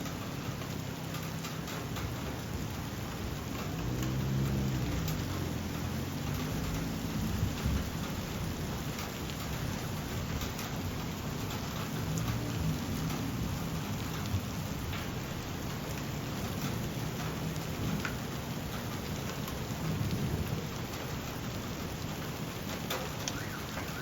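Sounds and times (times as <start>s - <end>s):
rain falling: 0.0s - 24.0s
raindrops tapping: 0.0s - 24.0s.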